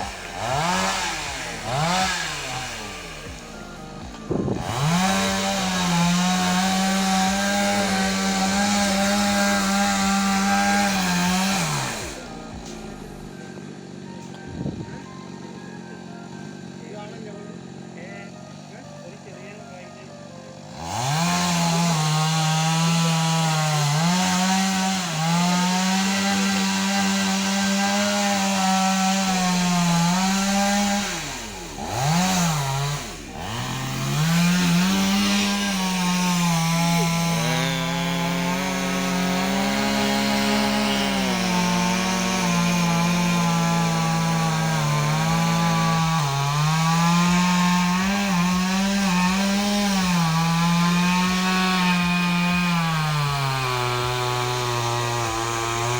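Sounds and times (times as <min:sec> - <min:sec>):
chainsaw cutting through tree: 0:00.0 - 0:55.9.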